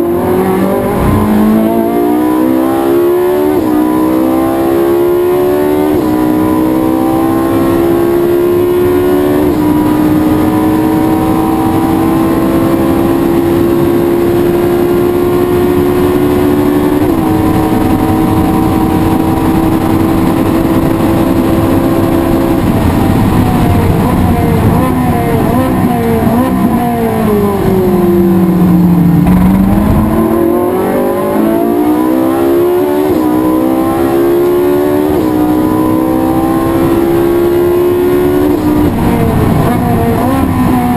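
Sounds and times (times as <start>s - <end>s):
race car engine at full throttle: 0.0s - 40.9s.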